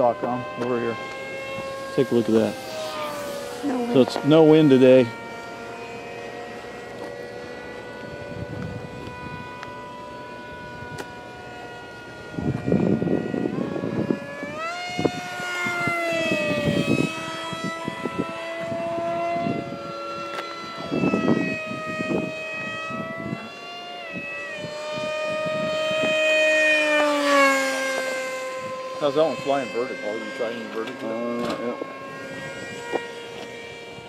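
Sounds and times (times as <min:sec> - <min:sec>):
model jet motor whining: 0:00.0 - 0:34.0.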